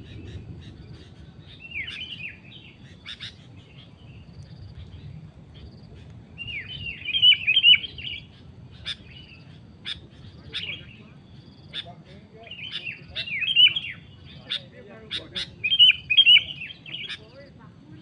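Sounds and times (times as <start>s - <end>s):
bulbuls chattering: 0.0s - 18.0s.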